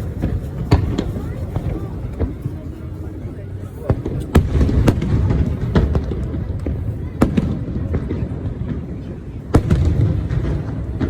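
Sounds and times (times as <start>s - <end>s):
fireworks bangs: 0.0s - 2.9s, 3.9s - 11.0s.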